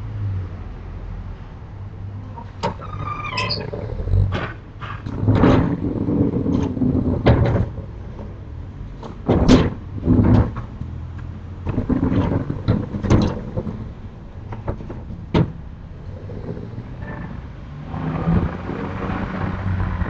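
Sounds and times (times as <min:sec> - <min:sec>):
sliding shutters rumbling and knocking: 0:01.9 - 0:20.0.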